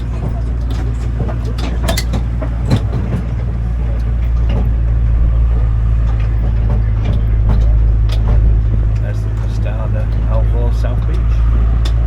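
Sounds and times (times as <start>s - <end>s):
clicks and rattles: 0.0s - 12.0s
engine running with low drone: 0.0s - 12.0s.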